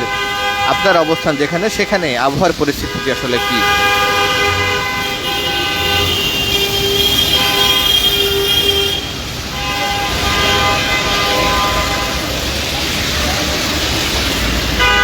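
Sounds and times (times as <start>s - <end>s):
vehicle horns honking: 0.0s - 12.8s, 14.7s - 15.0s
road traffic noise: 0.0s - 15.0s.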